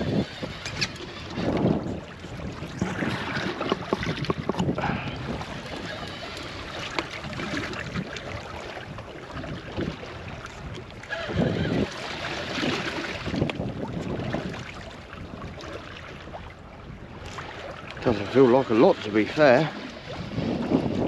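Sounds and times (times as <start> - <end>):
water slapping against hull: 0.0 - 21.0
wind buffeting microphone: 0.0 - 21.0.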